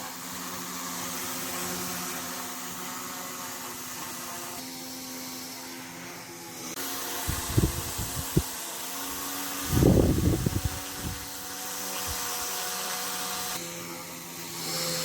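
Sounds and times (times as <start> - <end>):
electric motor whirring: 0.0 - 15.0.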